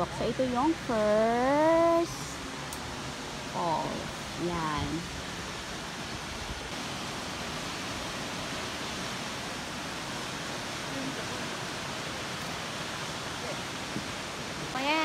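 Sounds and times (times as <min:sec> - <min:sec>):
waterfall rushing: 0:01.8 - 0:15.0.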